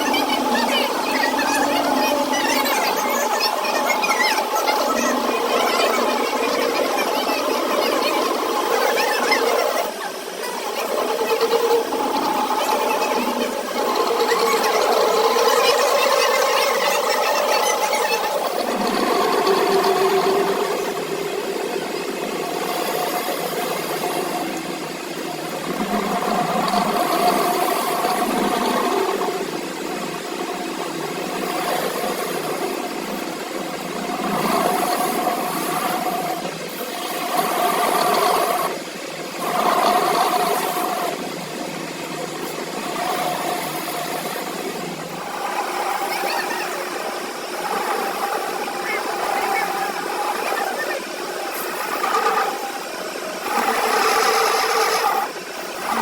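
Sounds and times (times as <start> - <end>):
motor-driven machine humming: 0.0 - 56.0.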